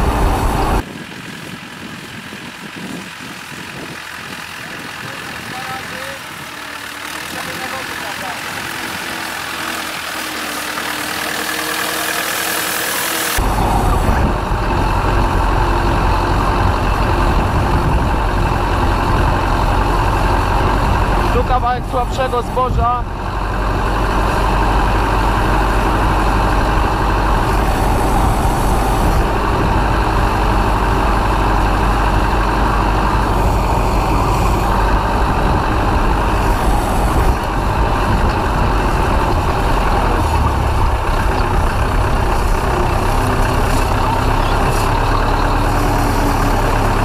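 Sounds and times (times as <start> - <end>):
tractor diesel engine droning: 0.0 - 47.0.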